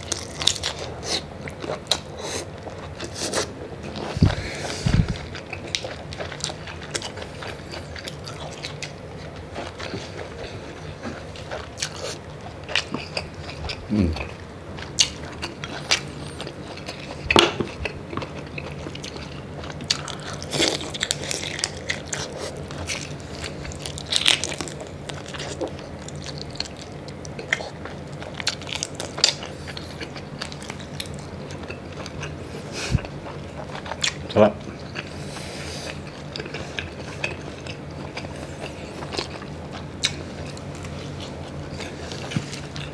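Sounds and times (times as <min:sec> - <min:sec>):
wet chewing: 0:00.0 - 0:42.9.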